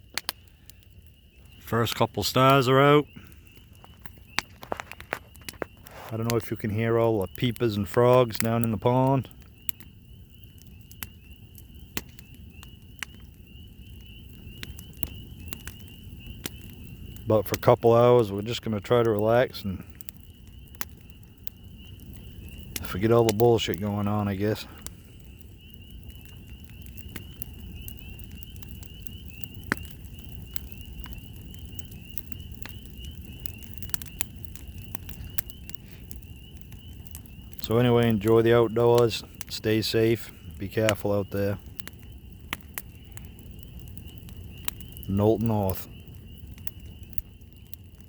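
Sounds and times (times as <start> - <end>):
campfire crackling and popping: 0.0 - 48.0
spring peepers calling: 0.0 - 48.0.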